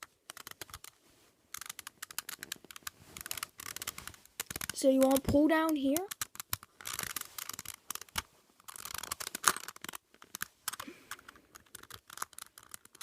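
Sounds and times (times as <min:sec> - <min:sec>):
plastic pieces clicking and scraping: 0:00.0 - 0:13.0.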